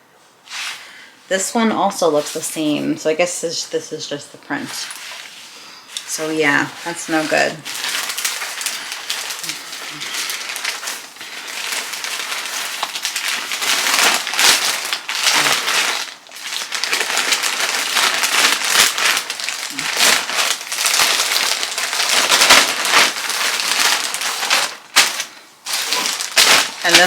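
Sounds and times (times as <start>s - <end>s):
packaging crinkling and rustling: 4.5s - 27.0s.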